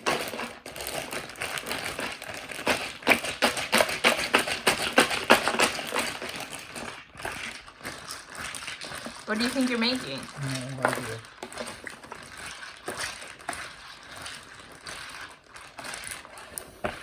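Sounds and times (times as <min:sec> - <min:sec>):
ice rattling in a bag: 0:00.0 - 0:17.0
plastic bag crinkling: 0:00.0 - 0:17.0.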